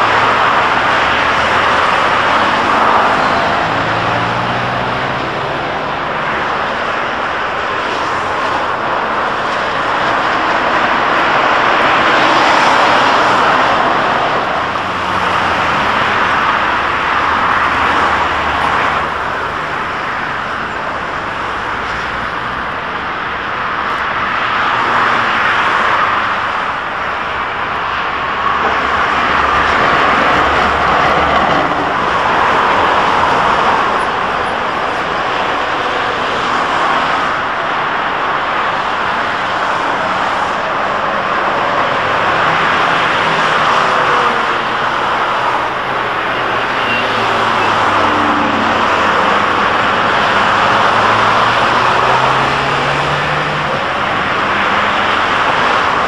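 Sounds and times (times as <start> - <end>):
electric tram passing: 0.0 - 23.5, 26.4 - 56.0
road traffic noise: 0.0 - 56.0.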